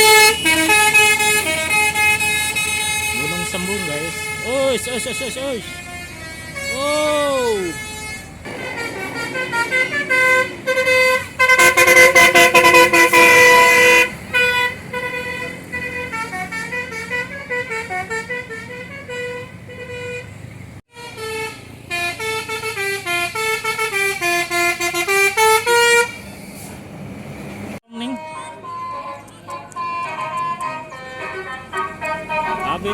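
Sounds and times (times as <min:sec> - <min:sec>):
bus musical horn playing tunes: 0:00.0 - 0:26.7, 0:27.8 - 0:32.9.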